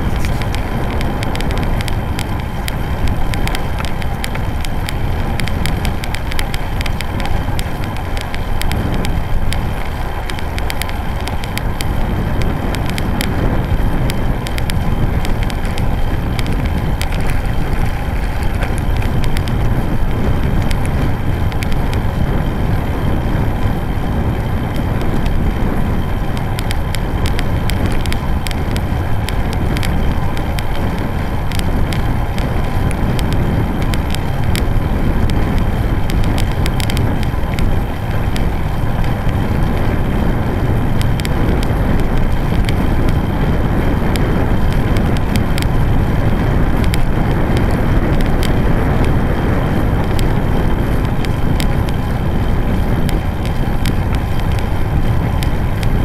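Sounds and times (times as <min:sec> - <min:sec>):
bike tyre rumble: 0:00.0 - 0:56.0
clicks and rattles from bumps: 0:00.0 - 0:56.0
wind buffeting microphone: 0:00.0 - 0:56.0.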